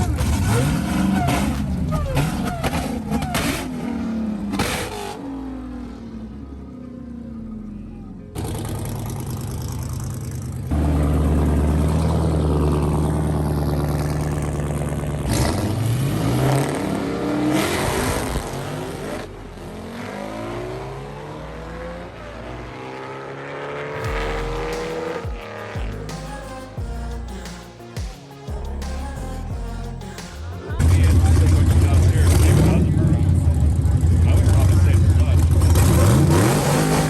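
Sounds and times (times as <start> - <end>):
drag race car engine revving: 0.0 - 27.6, 28.6 - 37.0.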